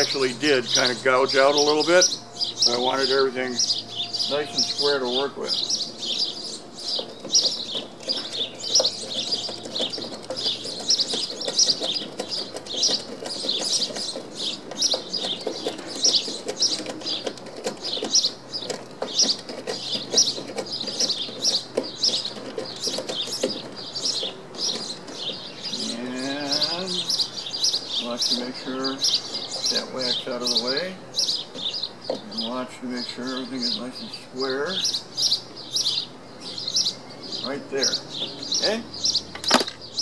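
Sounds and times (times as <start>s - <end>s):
small songbirds chirping: 0.0s - 40.0s.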